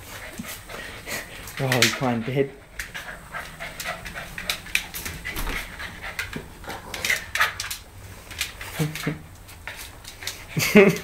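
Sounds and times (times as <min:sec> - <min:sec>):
dogs scuffling: 0:00.0 - 0:11.0.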